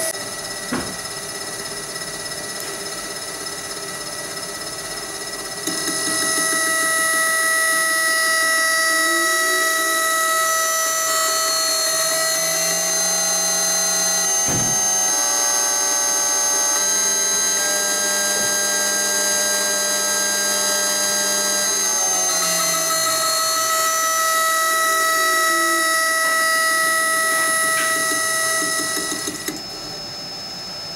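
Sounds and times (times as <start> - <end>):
spindle motor whine: 0.0 - 30.9
steady high whine: 0.0 - 30.9.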